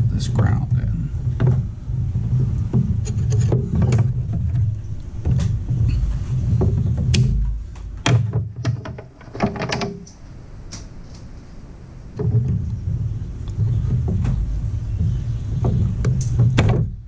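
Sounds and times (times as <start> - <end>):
low rumble: 0.0 - 8.3, 10.2 - 17.0.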